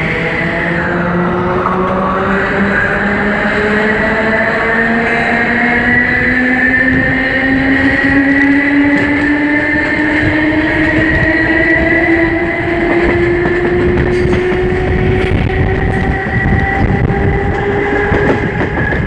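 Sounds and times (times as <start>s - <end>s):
train traction motors droning: 0.0s - 19.0s
train wheel and running noise: 0.0s - 19.0s.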